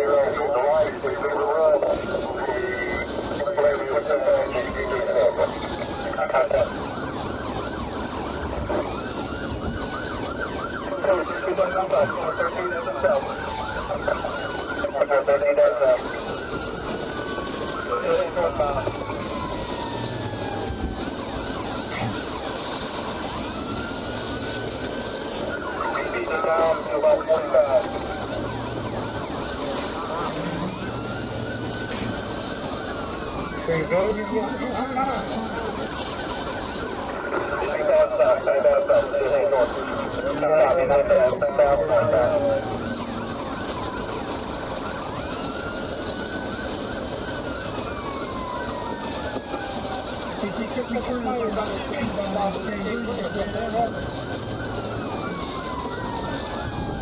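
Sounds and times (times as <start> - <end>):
car road and engine noise: 0.0 - 57.0
police siren wailing: 0.0 - 57.0.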